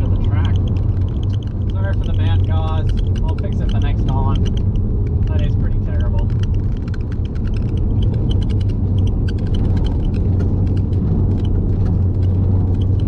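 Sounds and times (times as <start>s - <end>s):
cabin ticks and rattles: 0.0s - 13.0s
car engine and road noise: 0.0s - 13.0s.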